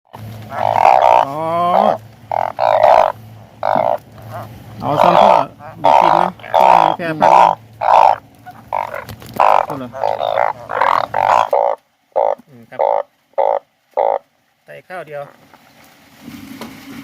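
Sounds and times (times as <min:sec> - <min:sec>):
frogs calling in chorus: 0:00.1 - 0:14.3
low background hum: 0:00.1 - 0:17.0.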